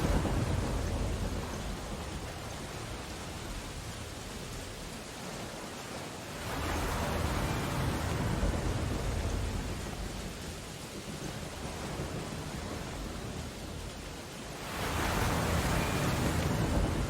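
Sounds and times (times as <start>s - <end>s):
rain on window glass: 0.0s - 17.0s
stormy ocean surf: 0.0s - 17.0s.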